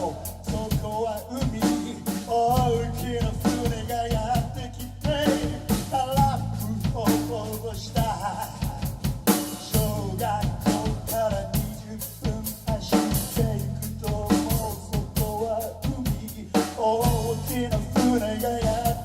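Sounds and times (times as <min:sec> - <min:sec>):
sustained low bass: 0:00.0 - 0:09.2, 0:09.8 - 0:19.0
drum kit beat: 0:00.0 - 0:19.0.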